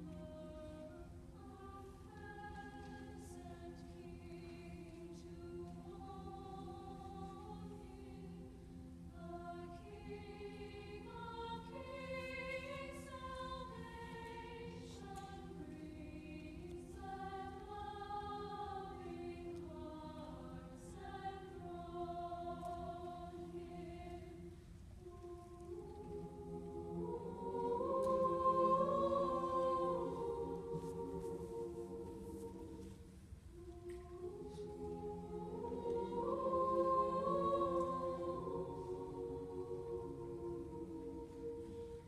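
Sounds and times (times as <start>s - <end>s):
mixed choir singing: 0.0s - 42.0s.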